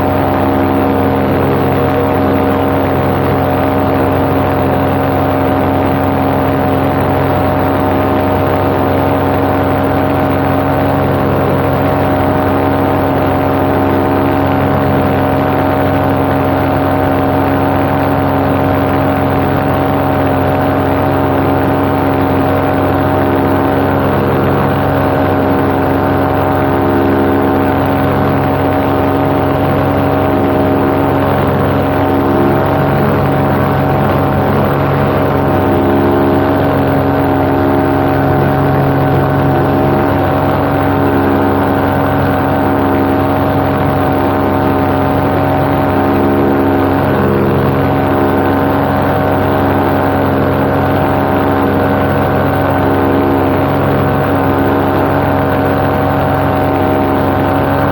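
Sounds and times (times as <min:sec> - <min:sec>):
paramotor engine droning: 0:00.0 - 0:57.9.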